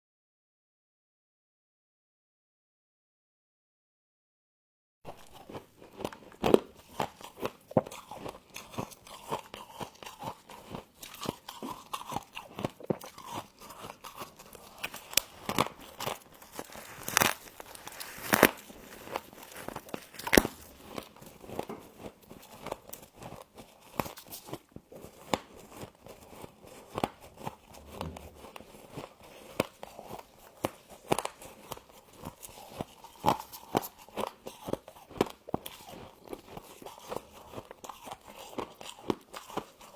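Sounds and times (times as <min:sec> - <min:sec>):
frost crunching when chewed: 0:05.1 - 0:39.9.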